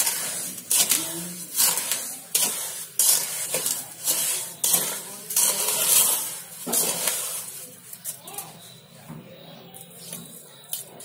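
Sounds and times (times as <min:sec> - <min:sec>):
spatula scraping sugar in pot: 0:00.0 - 0:08.8.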